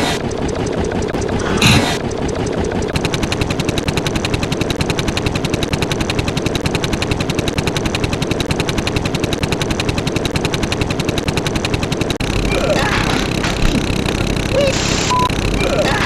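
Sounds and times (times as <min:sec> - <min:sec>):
rapid machine gun fire: 0:00.0 - 0:16.0.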